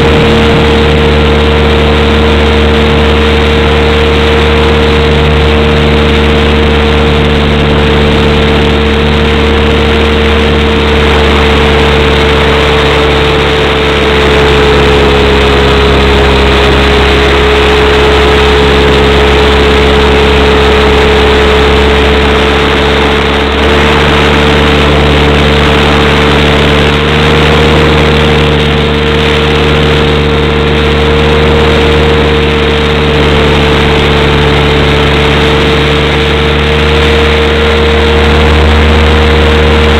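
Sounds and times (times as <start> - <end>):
model aircraft motor drone: 0.0 - 39.9.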